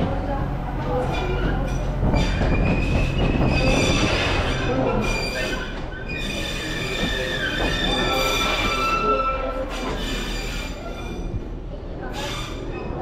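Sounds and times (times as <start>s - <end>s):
wheels squealing on rails: 0.9s - 13.0s.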